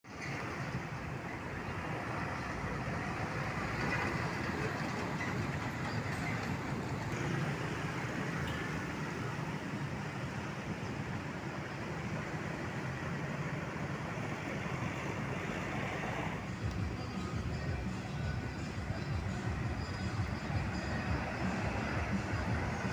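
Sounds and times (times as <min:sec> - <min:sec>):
road traffic noise: 0:00.0 - 0:22.9
trucks and buses passing: 0:00.0 - 0:22.9.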